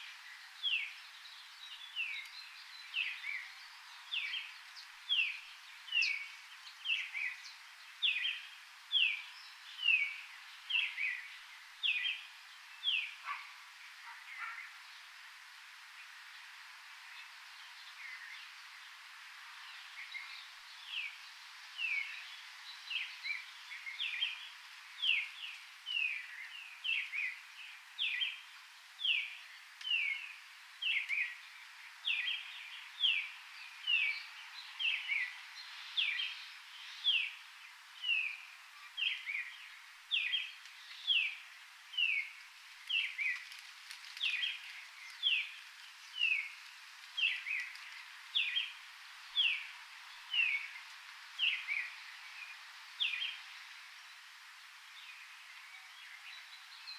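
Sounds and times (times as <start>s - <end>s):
bird chirping: 0.0s - 14.9s, 19.6s - 46.6s, 47.2s - 50.8s, 51.4s - 54.2s
faint background hiss: 0.0s - 56.9s.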